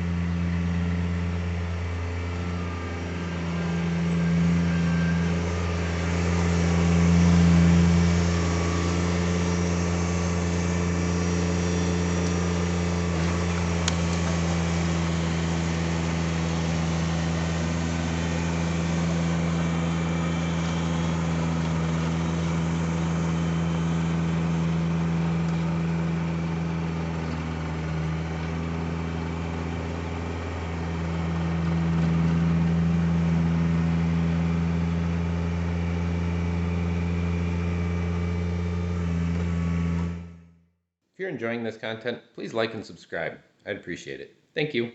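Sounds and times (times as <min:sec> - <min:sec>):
tractor diesel engine running: 0:00.0 - 0:40.6.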